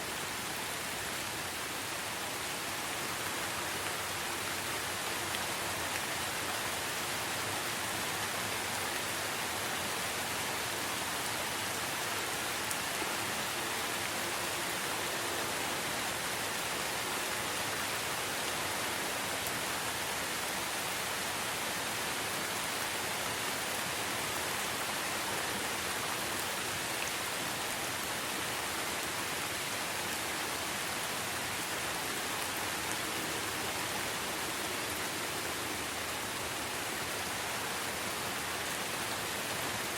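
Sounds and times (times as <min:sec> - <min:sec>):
rain hissing in forest: 0:00.0 - 0:39.9.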